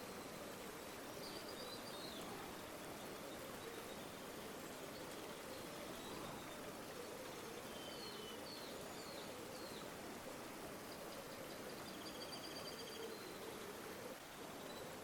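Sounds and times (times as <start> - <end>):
river water flowing: 0.0 - 15.0
small birds calling faintly: 0.0 - 15.0.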